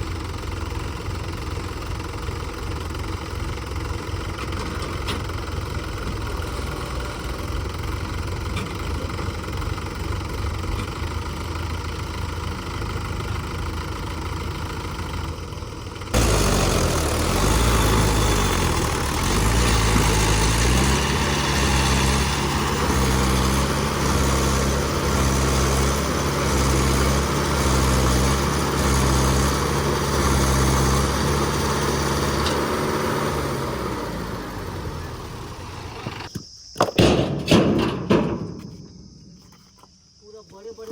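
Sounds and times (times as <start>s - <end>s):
diesel tractor engine: 0.0s - 39.6s.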